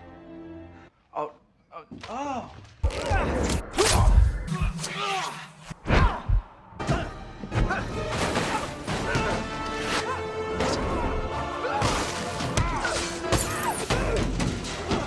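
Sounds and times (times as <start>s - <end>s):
loud action film score: 2.6s - 15.0s.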